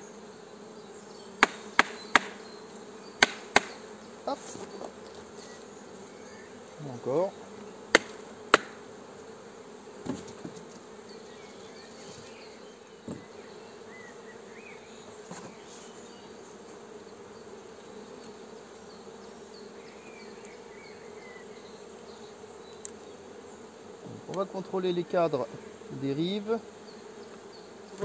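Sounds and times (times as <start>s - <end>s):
honeybees humming: 0.0s - 28.0s.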